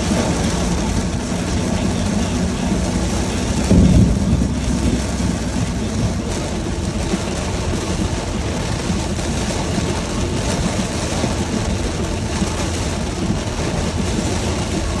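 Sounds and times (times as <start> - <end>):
heavy rain on a car: 0.0 - 15.0
low car rumble: 0.0 - 15.0
tyres hissing on wet road: 0.0 - 15.0.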